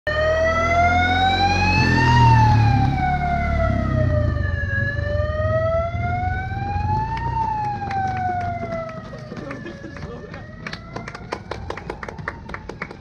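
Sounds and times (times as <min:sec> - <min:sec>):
emergency siren wailing: 0:00.1 - 0:13.0.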